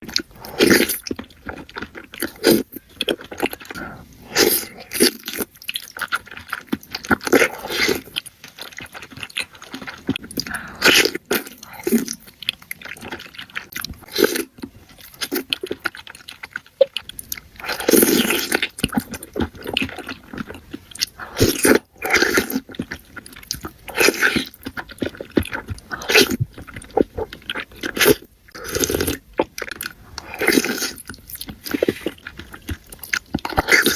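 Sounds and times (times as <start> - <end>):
person biting and chewing food: 0.0 - 33.9.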